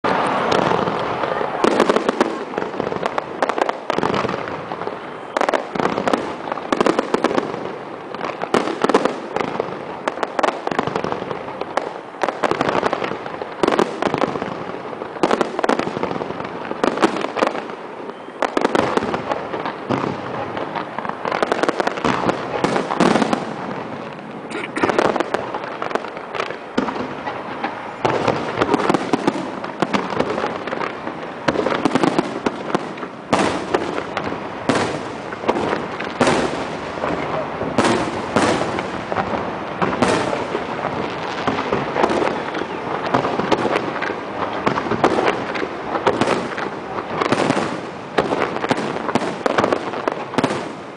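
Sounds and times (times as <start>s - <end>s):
fireworks booms and crackling: 0.0s - 50.9s.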